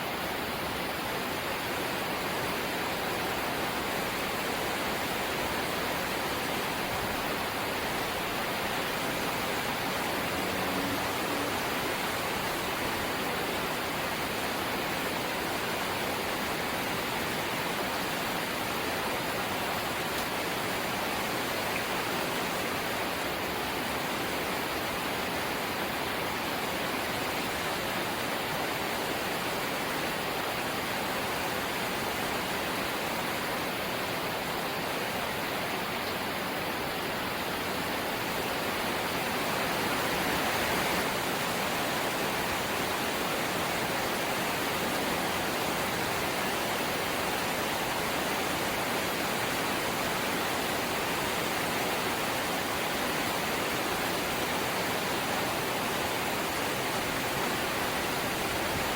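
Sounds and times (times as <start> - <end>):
heavy rain on a metal roof: 0.0 - 58.9.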